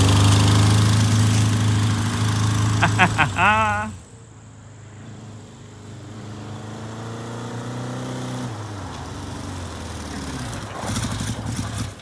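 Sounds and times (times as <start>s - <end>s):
motorcycle engine approaching: 0.0s - 12.0s.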